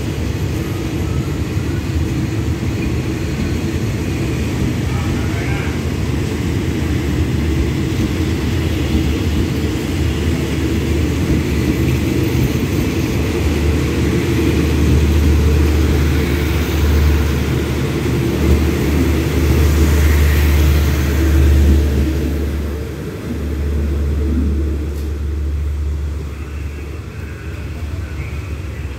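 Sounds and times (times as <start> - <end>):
train carriages rumbling past: 0.0 - 28.9.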